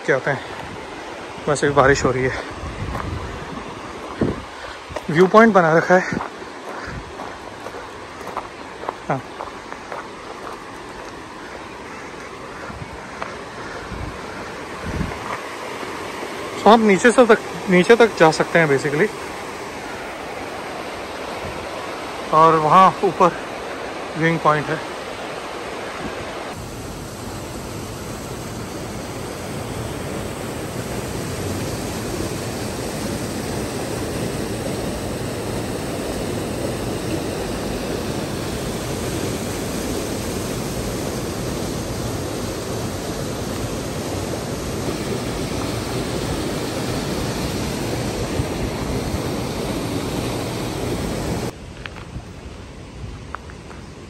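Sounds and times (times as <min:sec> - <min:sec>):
mountain stream rushing over rocks: 0:00.0 - 0:51.6.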